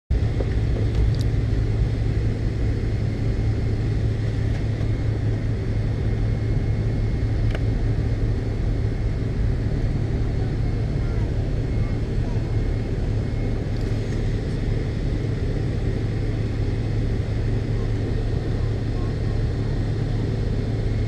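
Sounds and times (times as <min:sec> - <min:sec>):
airliner cabin hum: 0:00.1 - 0:21.0.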